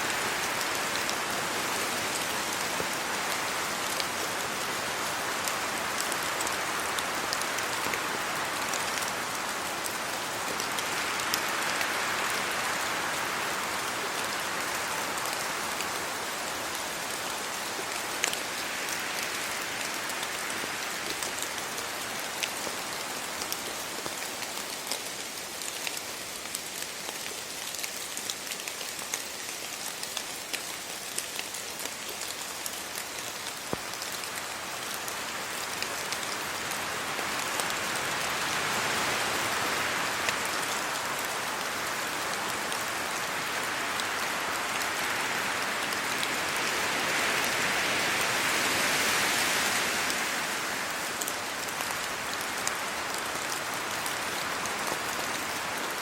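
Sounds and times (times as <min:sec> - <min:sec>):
rain pattering on leaves and road: 0:00.0 - 0:56.0
wind gusting through trees: 0:00.0 - 0:56.0.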